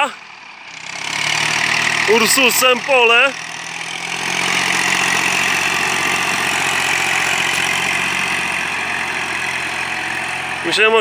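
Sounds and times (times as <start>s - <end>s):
diesel tractor engines under load: 0.0s - 11.0s.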